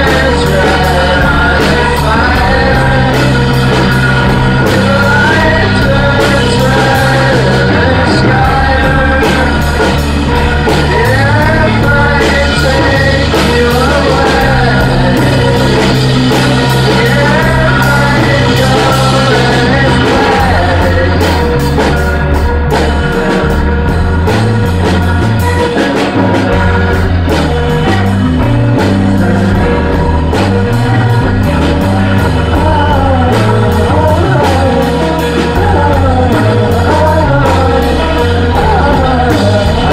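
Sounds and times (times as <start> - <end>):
person singing through rotating speaker: 0.0 - 23.5, 25.9 - 39.9
drums: 0.0 - 39.9
held bass notes: 0.0 - 39.9.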